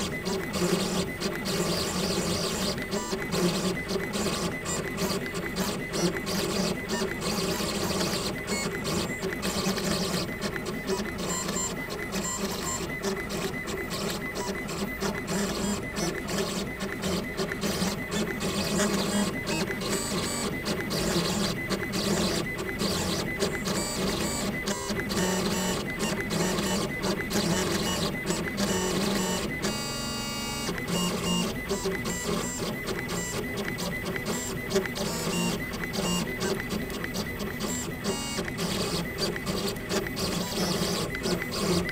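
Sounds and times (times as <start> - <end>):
engraving machine motors whirring: 0.0 - 41.9.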